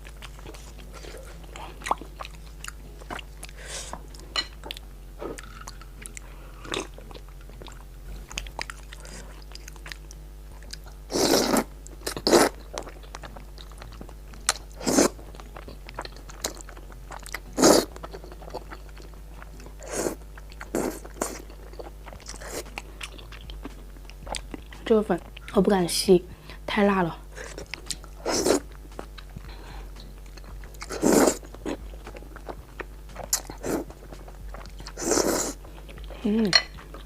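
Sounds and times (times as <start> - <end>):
person chewing food: 0.0 - 25.6, 27.2 - 37.0.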